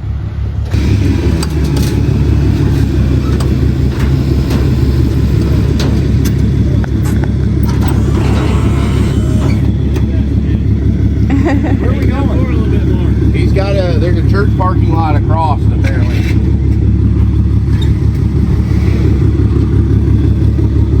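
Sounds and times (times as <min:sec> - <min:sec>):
pickup truck engine rumbling: 0:00.0 - 0:21.0.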